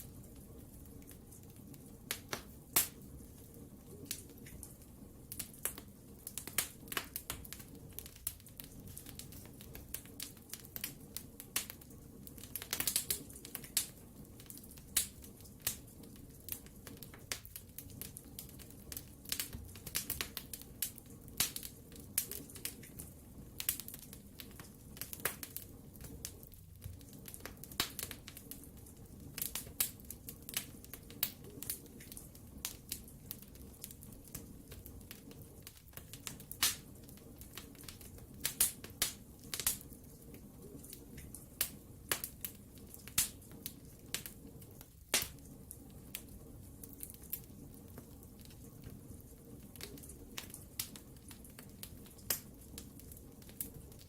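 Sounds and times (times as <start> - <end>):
wood fire pops and snaps: 0.0 - 54.0.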